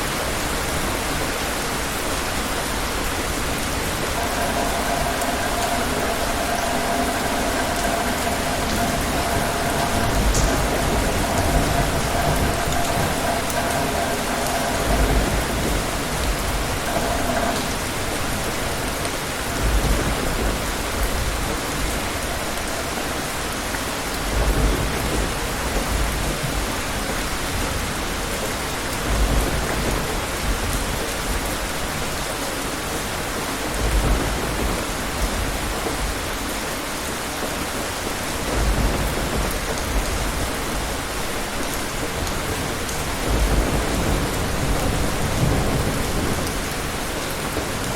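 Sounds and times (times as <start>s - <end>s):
steady rain falling: 0.0s - 47.9s
thunder rumbles: 0.0s - 47.9s.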